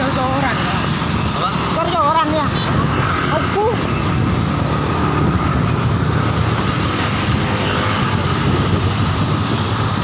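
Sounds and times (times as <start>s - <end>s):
motorcycle engine: 0.0s - 10.0s
road noise: 0.0s - 10.0s
wind noise on microphone: 0.0s - 10.0s.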